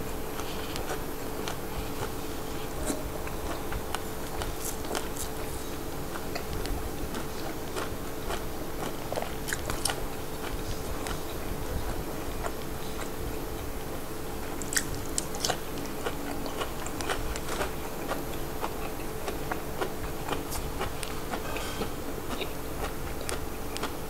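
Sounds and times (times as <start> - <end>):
faint hum: 0.0 - 24.0
close chewing: 0.3 - 24.0.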